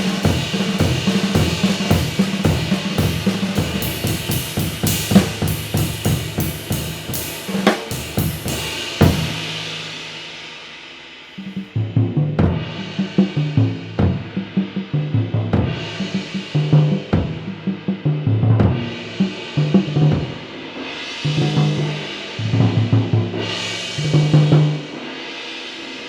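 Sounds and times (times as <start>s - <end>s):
drum kit playing: 0.0s - 11.8s, 12.4s - 26.0s.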